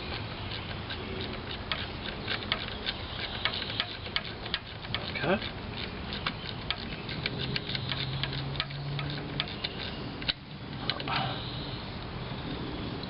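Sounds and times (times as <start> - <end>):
ratchet wrench clicking: 0.0 - 11.2.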